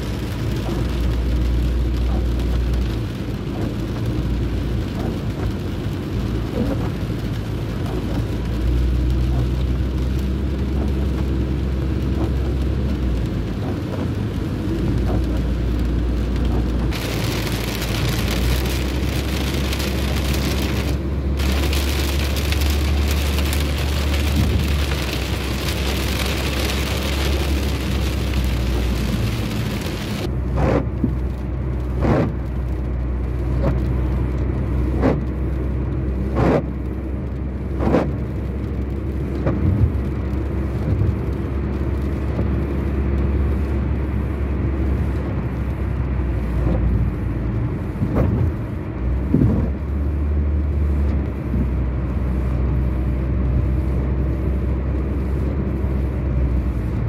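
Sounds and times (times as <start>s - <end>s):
car engine and road rumble: 0.0s - 57.0s
rain and spray hissing on car: 0.0s - 57.0s
windscreen wipers sweeping: 0.0s - 57.0s.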